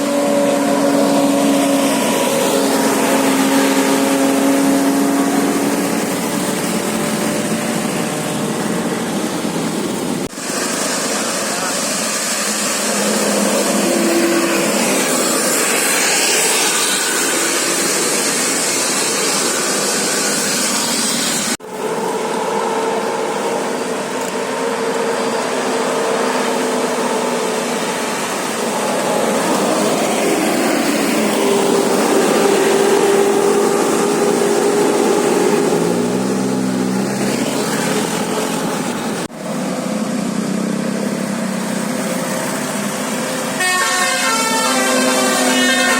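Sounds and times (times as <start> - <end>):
roadside traffic noise: 0.0 - 45.9.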